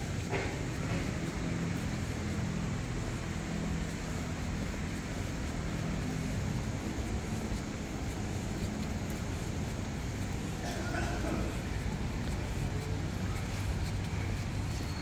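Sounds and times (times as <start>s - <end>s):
road traffic engine hum: 0.0s - 15.0s.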